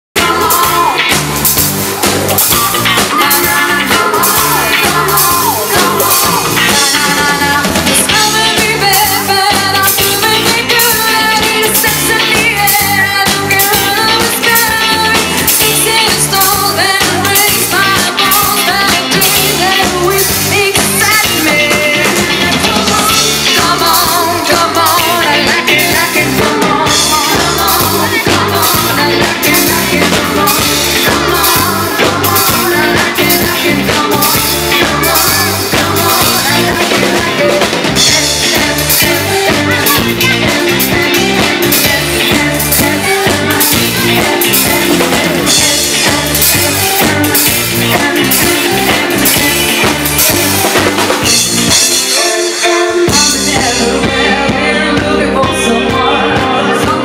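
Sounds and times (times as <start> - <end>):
drums: 0.0 - 57.0
electric bass: 0.1 - 57.0
keyboards: 0.2 - 57.0
woman singing lead: 0.2 - 57.0.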